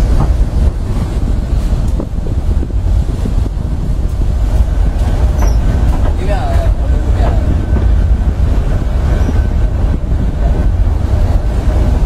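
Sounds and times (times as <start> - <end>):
train rumbling on rails: 0.0 - 12.0
wind buffeting microphone: 0.0 - 12.0.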